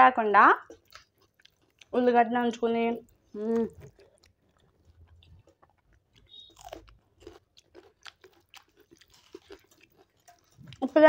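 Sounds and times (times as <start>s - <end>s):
faint chewing: 0.6s - 11.0s.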